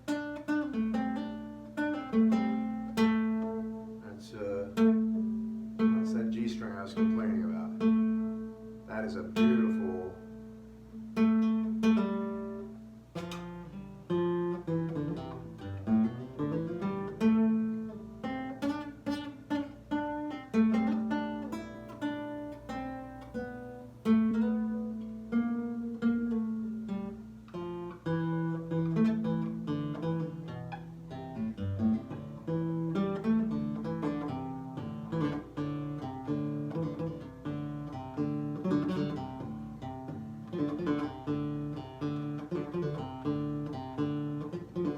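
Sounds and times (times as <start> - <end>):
nylon-string guitar fingerstyle: 0.0 - 44.9.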